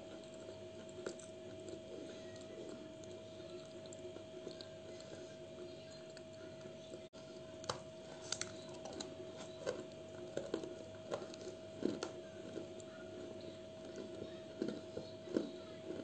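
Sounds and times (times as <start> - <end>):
crunching bites and chewing: 0.0 - 16.0
faint steady hum: 0.0 - 16.0.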